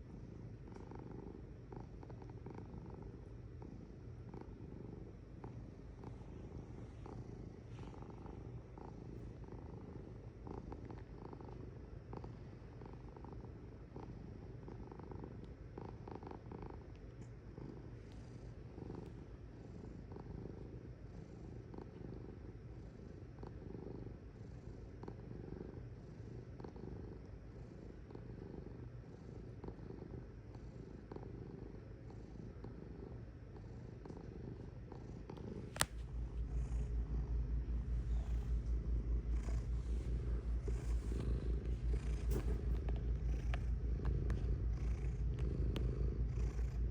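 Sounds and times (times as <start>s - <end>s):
cat purring: 0.0s - 46.9s.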